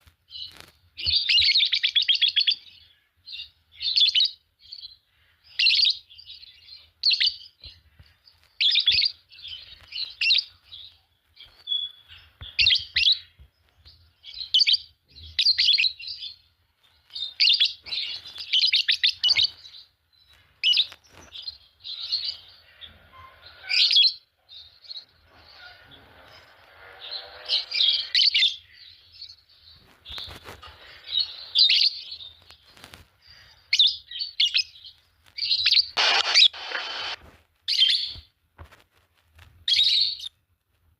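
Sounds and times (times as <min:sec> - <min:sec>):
lovebirds chirping and chattering: 0:00.2 - 0:38.3, 0:39.6 - 0:40.4.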